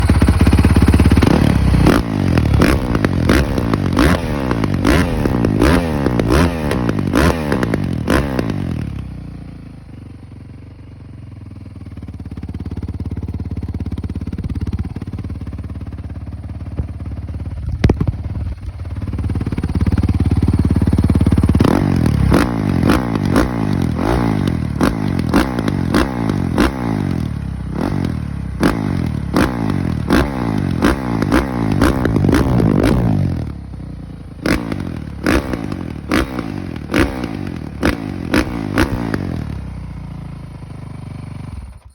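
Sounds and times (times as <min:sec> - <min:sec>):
motorcycle engine idling: 0:00.0 - 0:41.9
motorcycle engine revving: 0:00.0 - 0:41.9.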